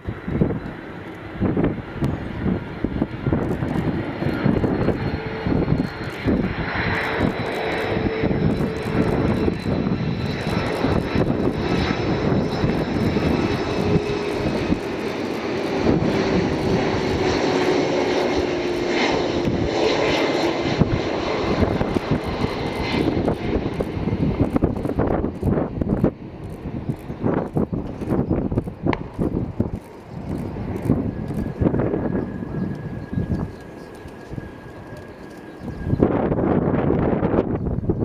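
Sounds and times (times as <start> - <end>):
jet airliner landing approach: 0.0 - 38.0.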